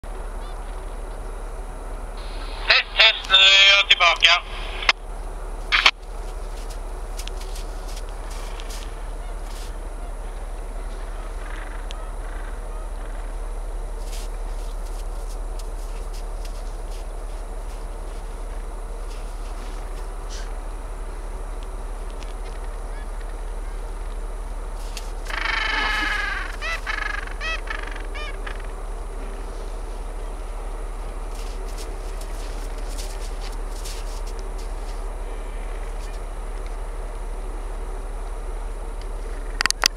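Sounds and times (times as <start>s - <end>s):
penguins honking: 2.2s - 5.0s, 5.7s - 36.8s.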